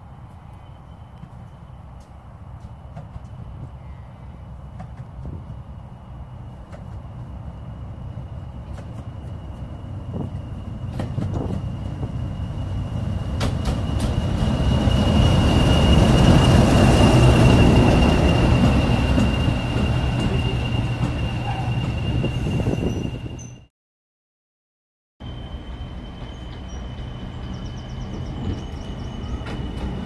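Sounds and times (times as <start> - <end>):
diesel locomotive engine rumble: 0.0 - 23.7, 25.2 - 30.0
train wheel noise: 0.3 - 23.6, 25.2 - 30.0.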